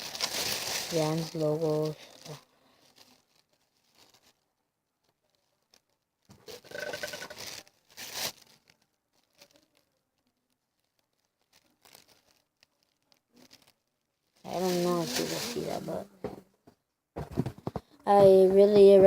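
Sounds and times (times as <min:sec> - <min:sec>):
paper wrapping rustling: 0:00.0 - 0:16.2.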